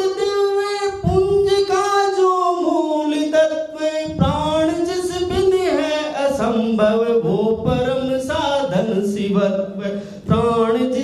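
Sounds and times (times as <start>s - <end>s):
man singing long held notes: 0.0s - 11.0s.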